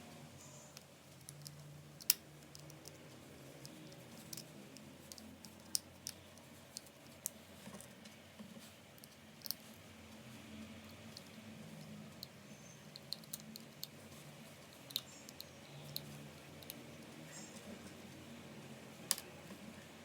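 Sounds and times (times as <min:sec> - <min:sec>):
faint low hum: 0:00.0 - 0:20.0
small parts clicking and tapping: 0:00.7 - 0:08.2, 0:08.9 - 0:09.8, 0:10.8 - 0:18.3, 0:19.0 - 0:19.5.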